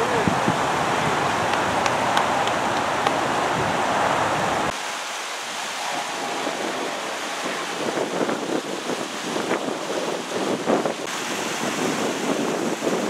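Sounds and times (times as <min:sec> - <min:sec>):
wind on microphone: 0:00.0 - 0:04.8, 0:05.4 - 0:13.0.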